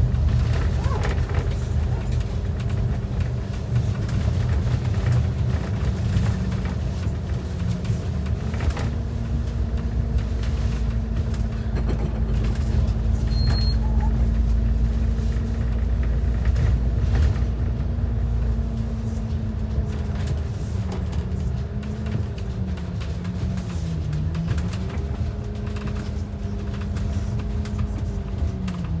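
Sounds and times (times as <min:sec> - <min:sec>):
bus engine droning: 0:00.0 - 0:29.0
road noise rumble: 0:00.0 - 0:29.0.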